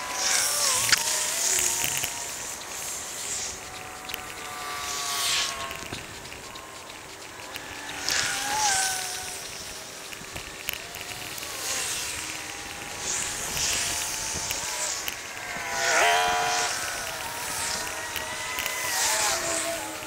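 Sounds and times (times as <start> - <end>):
bicycle rolling on path: 0.0 - 20.0
hissing swell: 0.0 - 20.0.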